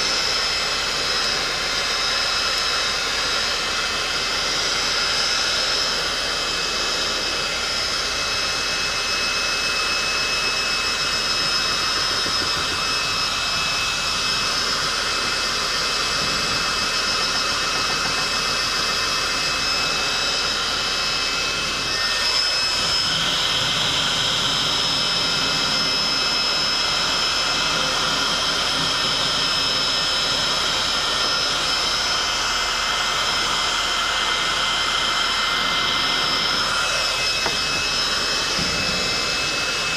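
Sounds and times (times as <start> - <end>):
heat gun blowing air with motor whine: 0.0 - 39.9.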